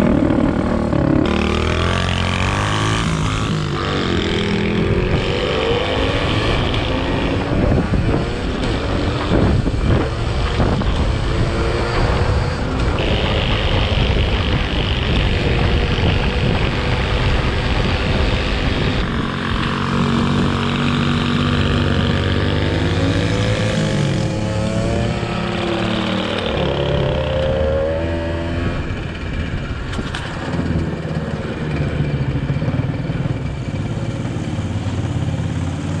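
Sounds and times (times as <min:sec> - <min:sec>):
small motorcycle engine revving: 0:00.0 - 0:36.0.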